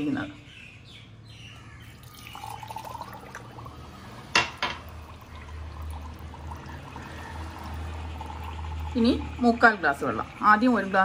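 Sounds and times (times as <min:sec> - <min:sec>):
water trickling into a tube: 0:01.8 - 0:11.0.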